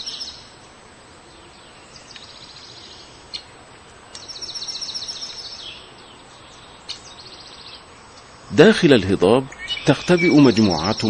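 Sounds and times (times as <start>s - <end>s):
songbird trilling: 0.0s - 0.5s, 1.3s - 11.0s
steady background hiss: 0.0s - 11.0s.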